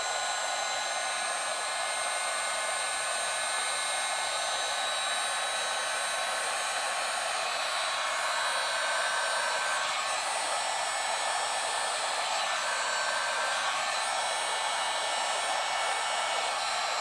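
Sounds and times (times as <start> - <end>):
heat gun blowing: 0.0 - 17.0.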